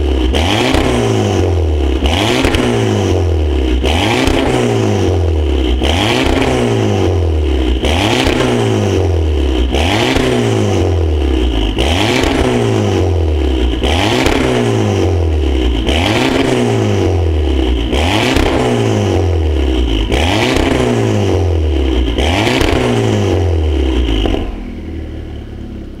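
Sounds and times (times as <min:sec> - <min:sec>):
car engine idling: 0:00.0 - 0:26.0
car engine revving: 0:00.0 - 0:26.0.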